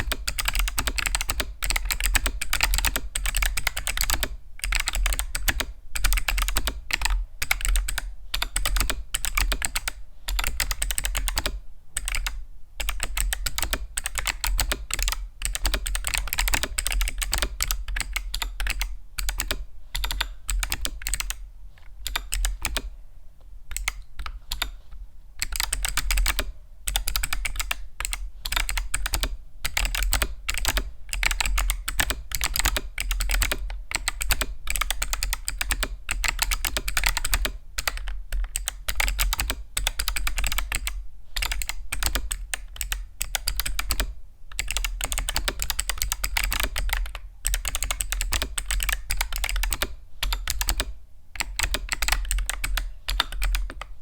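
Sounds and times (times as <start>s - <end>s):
fast typing on mechanical keyboard: 0.0s - 21.4s, 22.0s - 22.9s, 25.4s - 53.9s.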